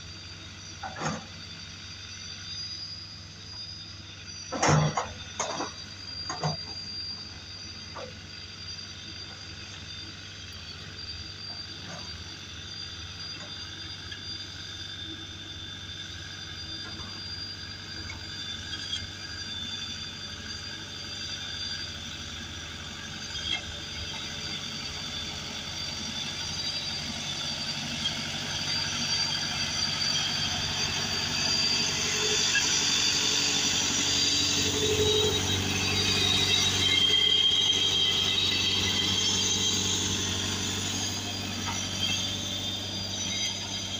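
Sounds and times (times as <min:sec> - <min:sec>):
road roller diesel engine: 0:00.0 - 0:43.9.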